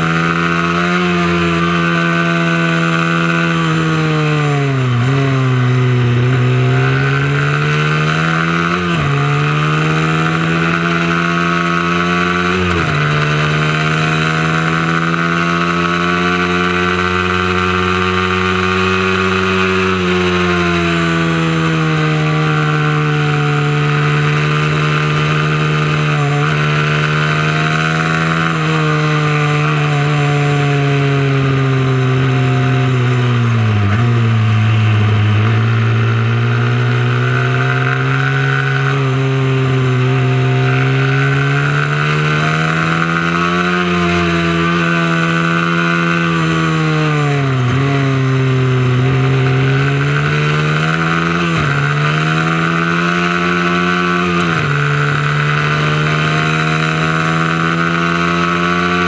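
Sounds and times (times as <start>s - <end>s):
small motorcycle engine revving: 0.0s - 59.0s.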